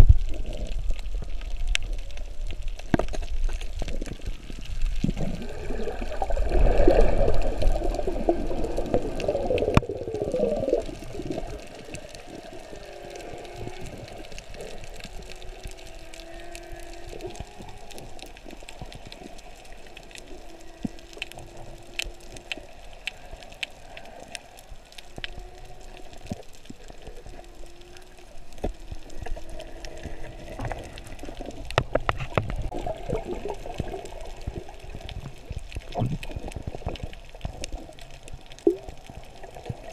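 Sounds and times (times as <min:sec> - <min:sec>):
underwater clicks: 0:00.0 - 0:39.9
underwater rushing and bubbling: 0:00.0 - 0:39.9.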